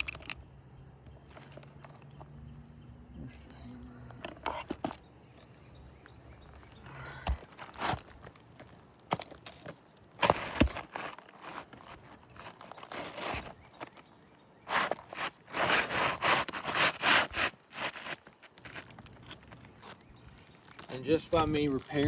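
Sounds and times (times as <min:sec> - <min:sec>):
scraping and crunching of shingles: 0:03.3 - 0:22.0.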